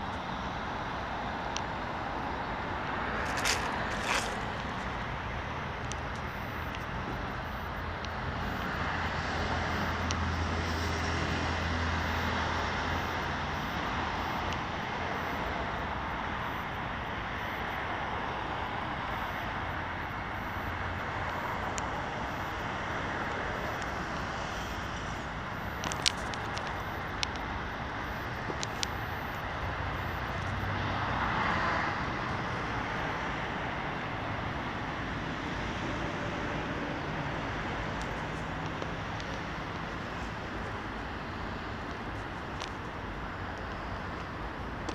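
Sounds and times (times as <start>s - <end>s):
distant road traffic roar: 0.0s - 44.9s.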